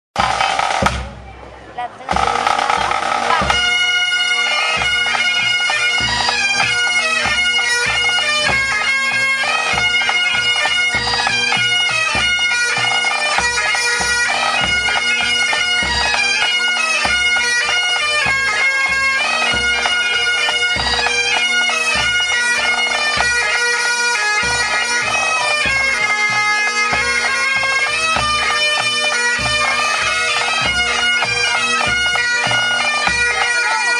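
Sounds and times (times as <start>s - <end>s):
bagpipes playing: 2.1s - 33.9s.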